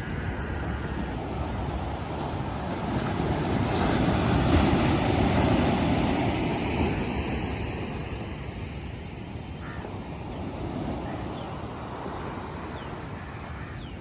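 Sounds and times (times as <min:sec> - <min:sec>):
ocean waves breaking on beach: 0:00.0 - 0:14.0.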